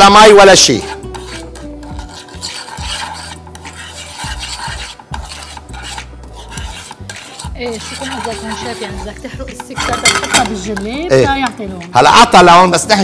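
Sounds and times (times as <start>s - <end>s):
wooden spoon scraping sugar: 0.0s - 11.3s.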